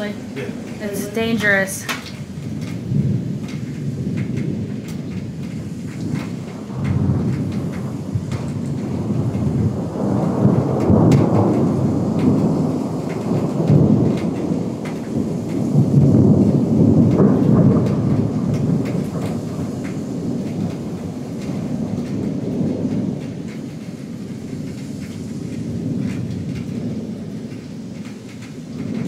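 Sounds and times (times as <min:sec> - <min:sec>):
rain falling: 0:00.0 - 0:29.0
raindrop ticks: 0:00.0 - 0:29.0
thunder rumbling: 0:00.0 - 0:29.0.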